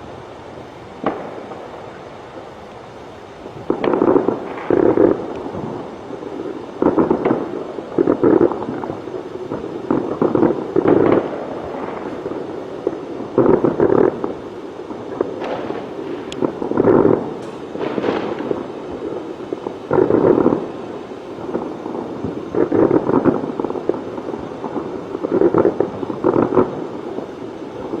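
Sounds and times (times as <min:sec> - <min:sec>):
fireworks banging and crackling: 0:00.0 - 0:28.0.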